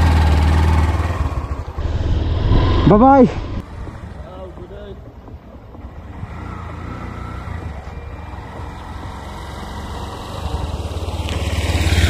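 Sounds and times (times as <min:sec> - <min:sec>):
motorcycle engine approaching: 0:00.0 - 0:12.0.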